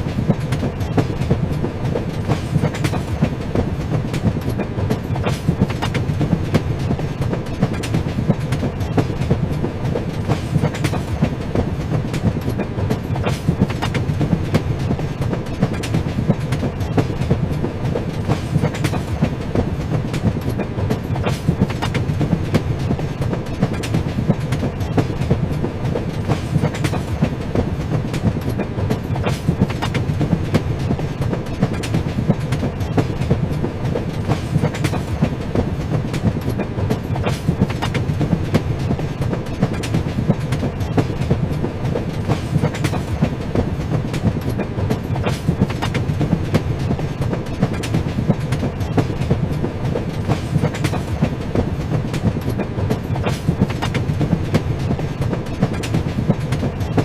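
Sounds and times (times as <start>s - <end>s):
train rumbling on tracks: 0.0s - 57.0s
wheels clacking over rails: 0.0s - 57.0s.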